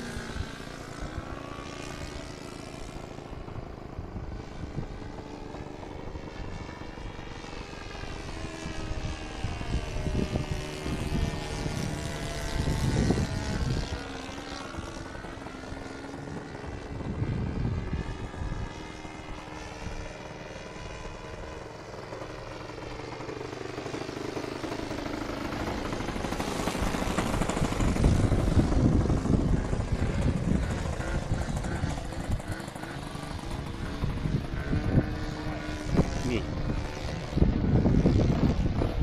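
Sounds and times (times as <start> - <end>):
model airplane engine drone: 0.0 - 39.0.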